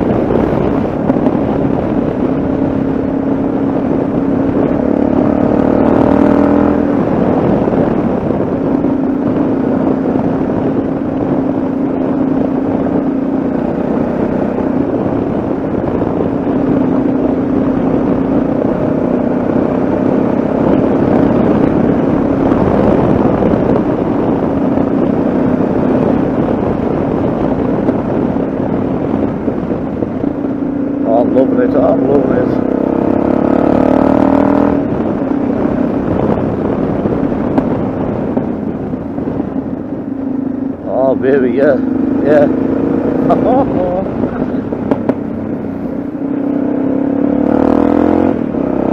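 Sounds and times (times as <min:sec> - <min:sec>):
motorcycle engine running: 0:00.0 - 0:48.9
road noise: 0:00.0 - 0:48.9
wind rush: 0:00.0 - 0:48.9.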